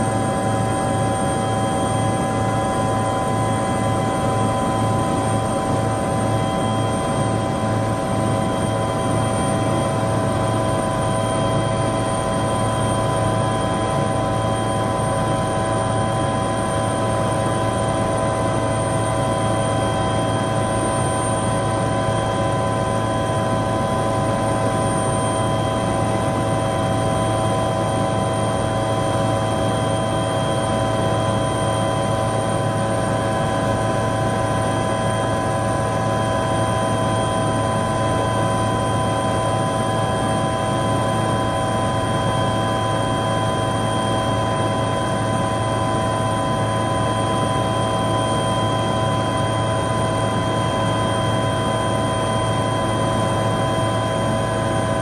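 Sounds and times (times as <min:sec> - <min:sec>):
helicopter engine and rotor drone: 0:00.0 - 0:55.0.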